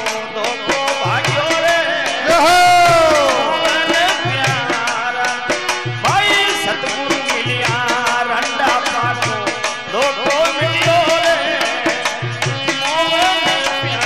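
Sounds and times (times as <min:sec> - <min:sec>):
hand drums beating: 0:00.0 - 0:14.0.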